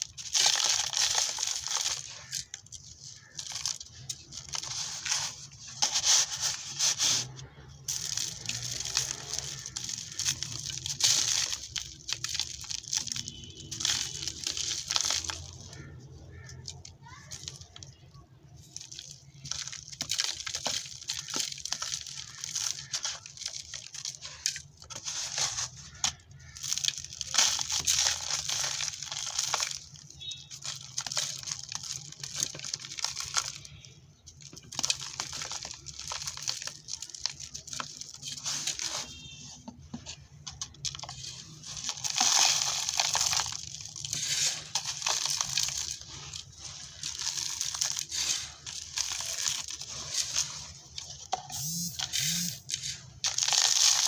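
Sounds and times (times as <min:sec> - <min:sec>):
dirt crumbling and crunching: 0:00.0 - 0:54.0.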